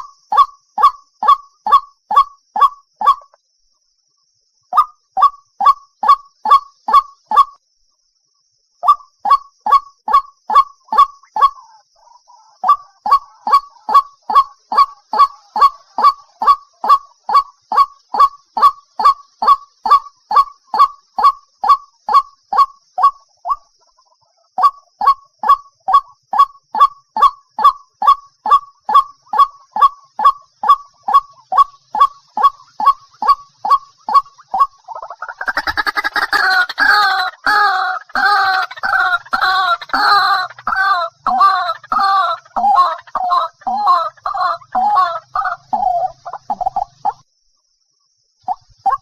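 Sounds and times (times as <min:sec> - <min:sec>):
waterhen calling: 0:00.0 - 0:03.4, 0:08.8 - 0:47.2.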